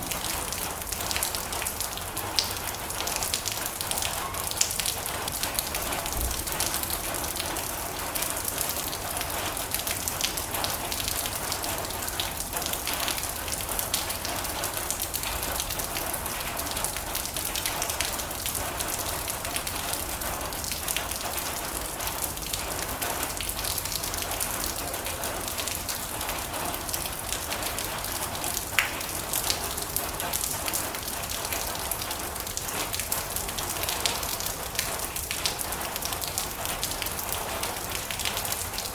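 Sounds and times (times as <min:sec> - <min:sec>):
heavy rain on a metal roof: 0:00.0 - 0:38.9.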